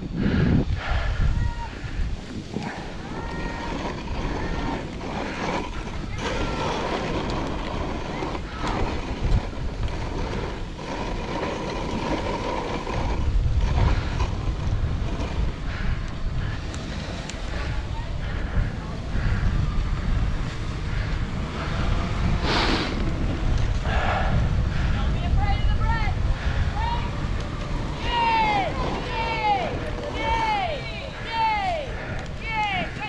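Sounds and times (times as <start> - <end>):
wind buffeting microphone: 0.0 - 33.0
sled runners scraping snow: 0.1 - 33.0.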